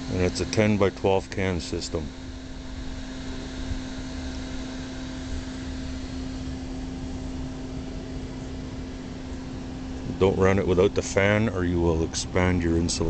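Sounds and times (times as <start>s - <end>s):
blower fan humming with rushing air: 0.0s - 13.0s.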